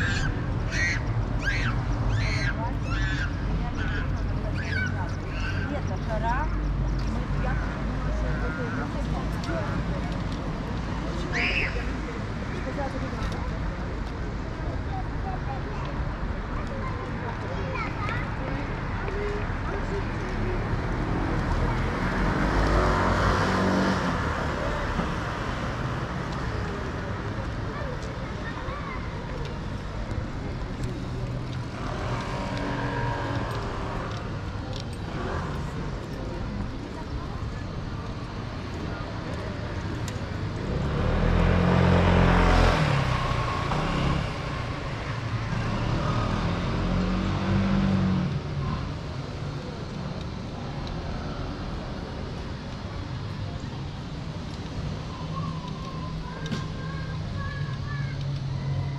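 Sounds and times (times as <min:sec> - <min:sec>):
steady traffic noise: 0:00.0 - 0:58.9.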